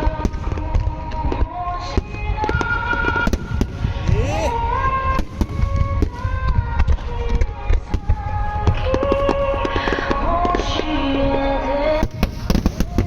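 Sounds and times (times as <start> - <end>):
fireworks booming and cracking: 0.0 - 13.0
music over loudspeakers: 0.0 - 13.0.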